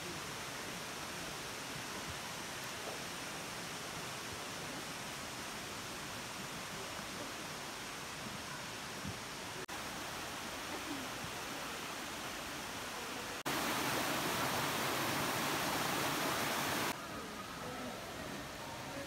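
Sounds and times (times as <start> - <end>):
waterfall rushing: 0.2 - 17.0.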